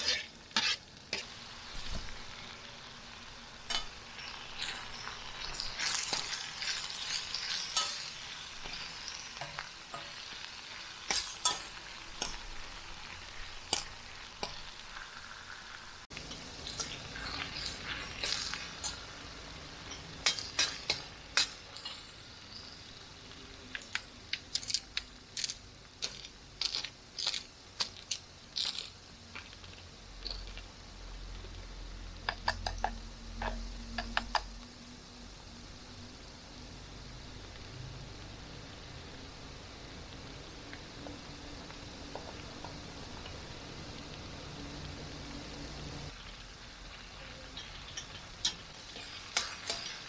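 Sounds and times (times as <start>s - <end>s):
onions sizzling: 0.0s - 50.0s.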